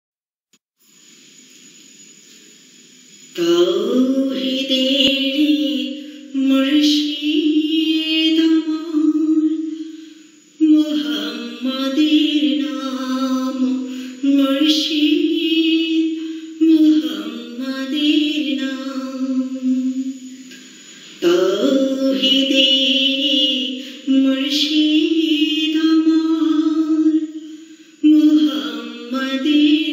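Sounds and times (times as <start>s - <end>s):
woman singing unaccompanied: 3.3s - 10.0s, 10.6s - 20.4s, 21.1s - 29.9s.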